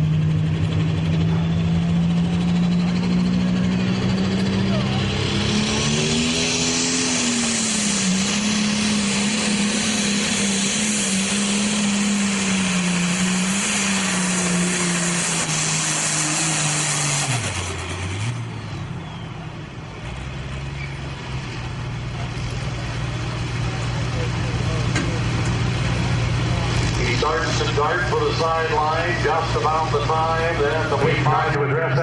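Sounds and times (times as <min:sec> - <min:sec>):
diesel engine at full throttle: 0:00.0 - 0:32.0.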